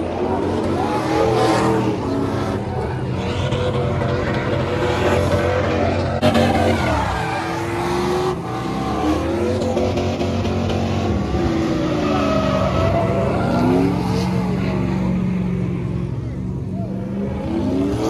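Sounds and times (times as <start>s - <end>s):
truck engines revving: 0.0s - 18.0s.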